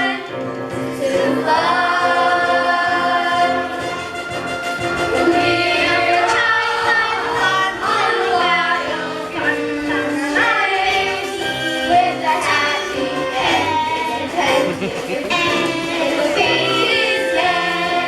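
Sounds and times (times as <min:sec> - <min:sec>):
group singing musical-theatre song: 0:00.0 - 0:18.0
instrumental accompaniment: 0:00.0 - 0:18.0.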